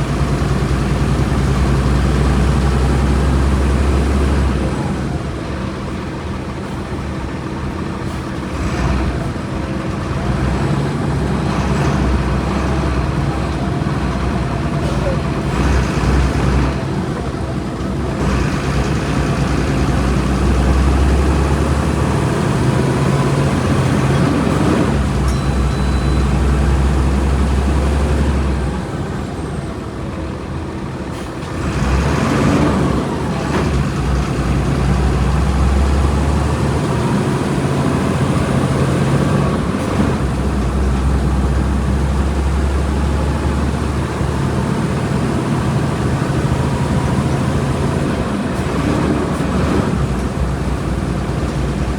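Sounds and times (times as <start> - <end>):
bus engine drone: 0.0 - 51.9.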